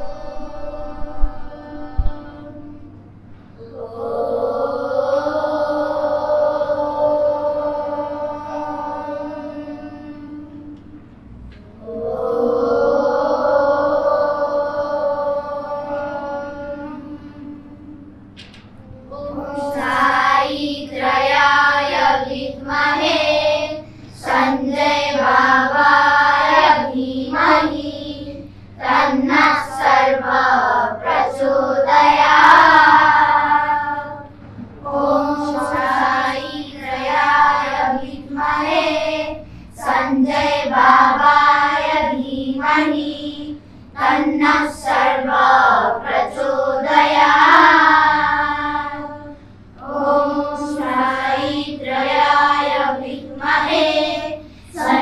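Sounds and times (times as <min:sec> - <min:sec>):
children singing in unison: 0:00.0 - 0:02.9, 0:03.5 - 0:10.8, 0:11.6 - 0:55.0.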